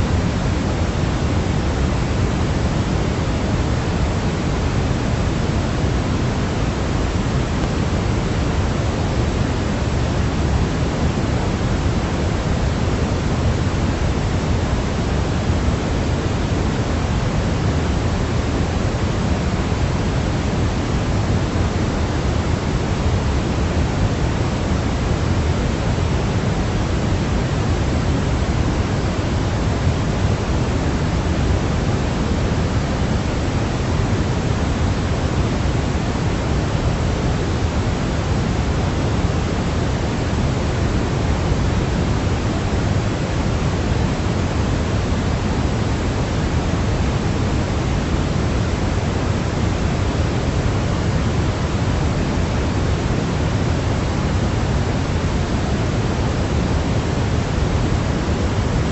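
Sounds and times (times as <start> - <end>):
steady pink noise: 0.0 - 58.9.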